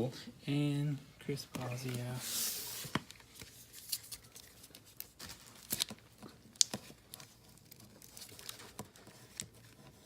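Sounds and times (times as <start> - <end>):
cards rustling: 1.6 - 9.6.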